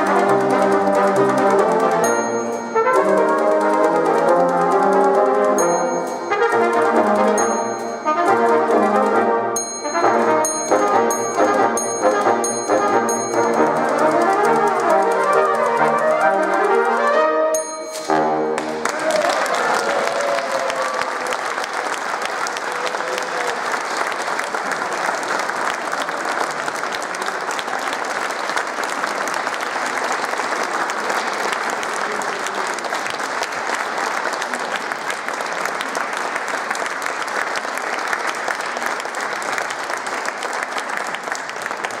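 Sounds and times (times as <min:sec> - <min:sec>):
audience applauding: 0:00.0 - 0:17.2, 0:18.1 - 0:42.0.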